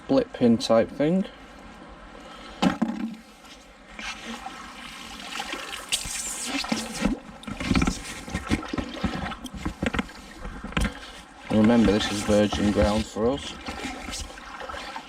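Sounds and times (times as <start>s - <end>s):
water sloshing from wading: 1.4s - 15.0s.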